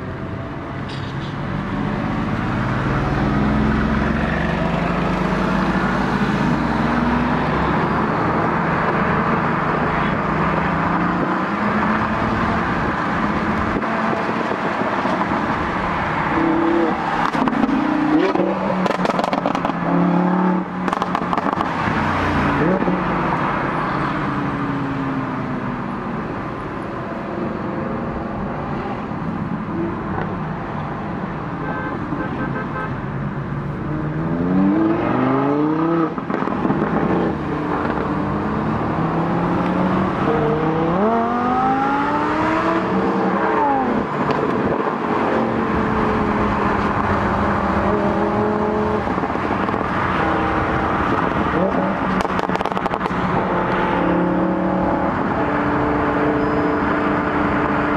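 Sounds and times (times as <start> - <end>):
car engines revving: 0.0 - 57.9.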